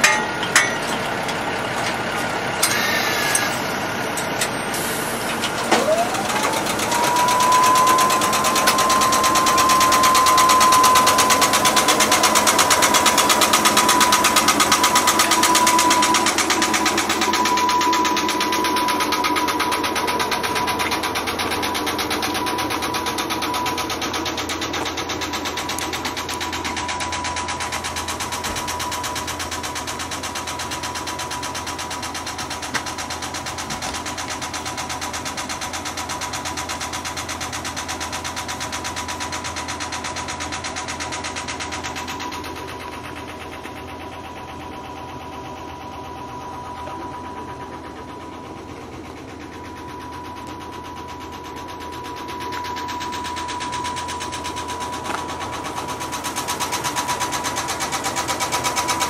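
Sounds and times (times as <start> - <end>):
locomotive machinery whine: 0.0 - 59.0.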